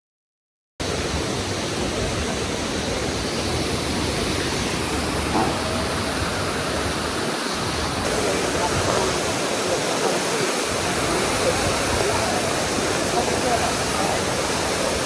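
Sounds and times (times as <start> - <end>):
waterfall crashing: 0.8 - 15.0.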